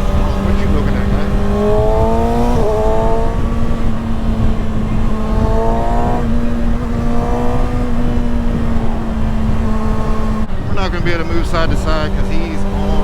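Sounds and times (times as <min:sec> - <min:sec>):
motorcycle engine revving: 0:00.0 - 0:13.0
wind rumble on microphone: 0:00.0 - 0:13.0.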